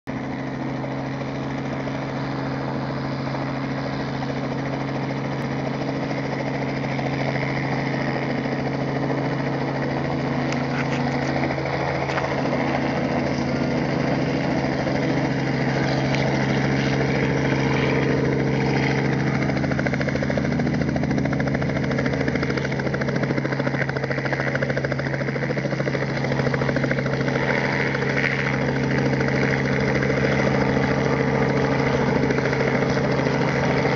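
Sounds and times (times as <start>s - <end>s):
helicopter engine and rotor: 0.1s - 33.9s.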